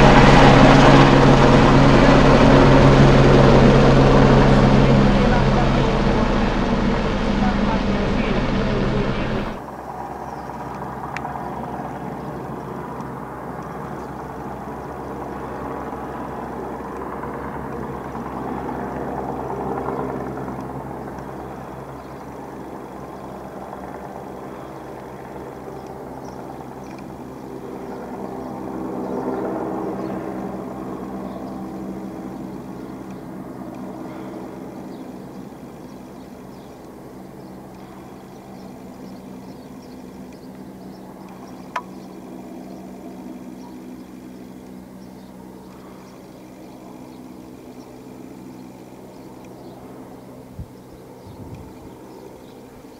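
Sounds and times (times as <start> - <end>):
distant helicopter drone: 0.0 - 52.9.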